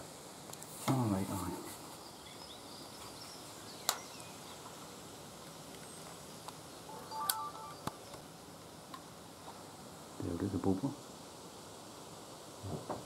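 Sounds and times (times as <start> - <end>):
steady outdoor hiss: 0.0 - 13.0
small birds chirping: 0.9 - 12.6.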